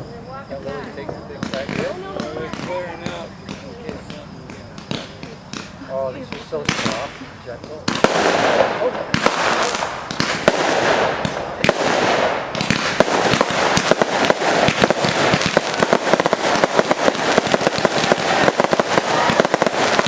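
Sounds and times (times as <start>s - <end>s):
fireworks popping and crackling: 0.0s - 20.0s.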